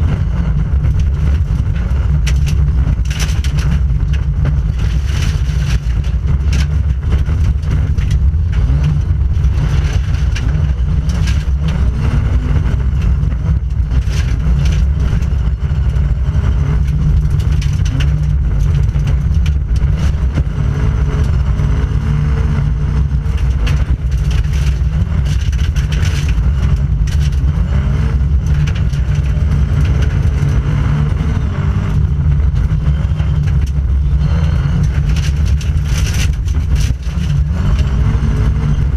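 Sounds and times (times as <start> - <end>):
car engine running under load: 0.0 - 38.9
road noise: 0.0 - 38.9.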